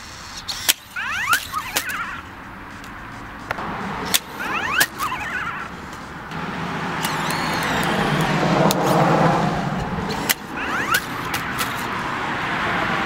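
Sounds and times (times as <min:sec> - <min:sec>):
sharp clicks: 0:00.0 - 0:06.4, 0:07.0 - 0:09.1, 0:09.8 - 0:12.0
small electric motors whining: 0:00.0 - 0:12.3
wheels on asphalt: 0:00.0 - 0:13.0.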